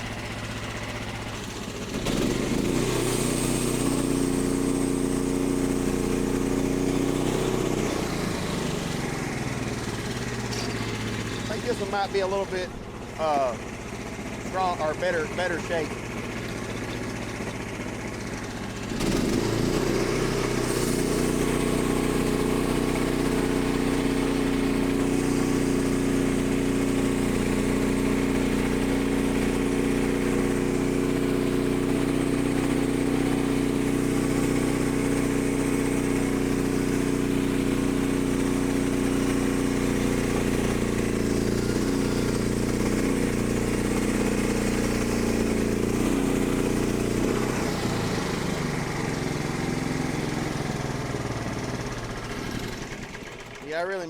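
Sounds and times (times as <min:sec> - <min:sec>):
gas engine running under load: 0:00.0 - 0:54.0
band saw blade cutting log: 0:01.9 - 0:13.6, 0:14.4 - 0:50.5.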